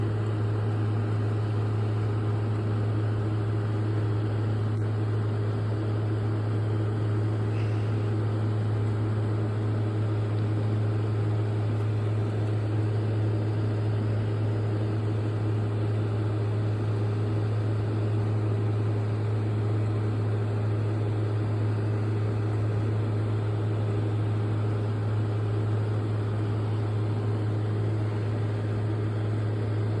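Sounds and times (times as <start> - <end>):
window air conditioner running: 0.0 - 30.0.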